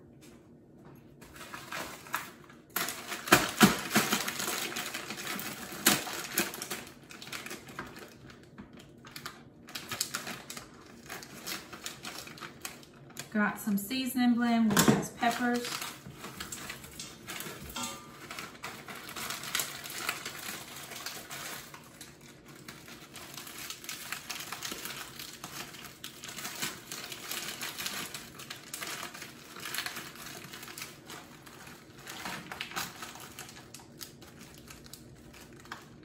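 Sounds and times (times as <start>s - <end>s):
plastic bags rustling and crinkling: 1.2s - 36.0s.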